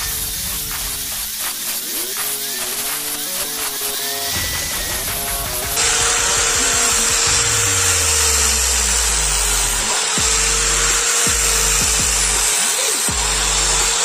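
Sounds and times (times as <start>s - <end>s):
angle grinder sanding steel: 0.0s - 14.0s.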